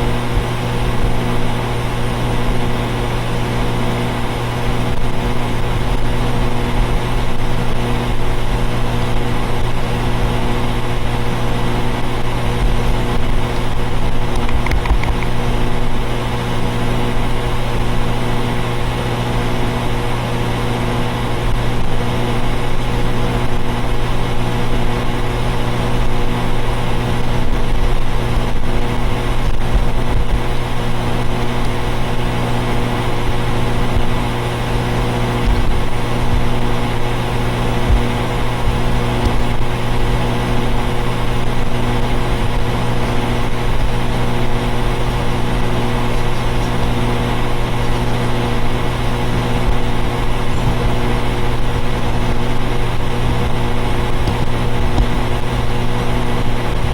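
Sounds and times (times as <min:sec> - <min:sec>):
air conditioner units humming: 0:00.0 - 0:56.9.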